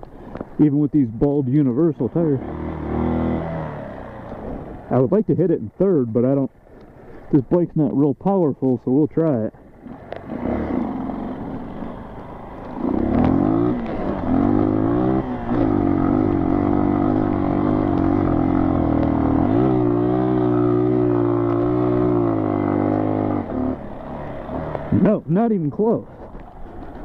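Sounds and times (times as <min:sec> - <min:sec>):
motorcycle engine under hard throttle: 0:00.0 - 0:27.0.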